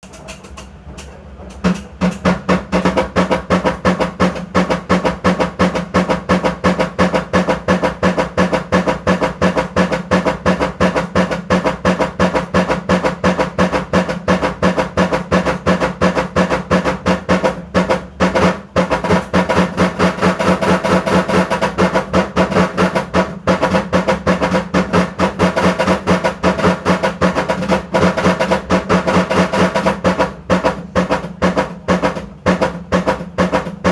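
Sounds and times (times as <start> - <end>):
washing machine knocking: 0.0 - 33.9.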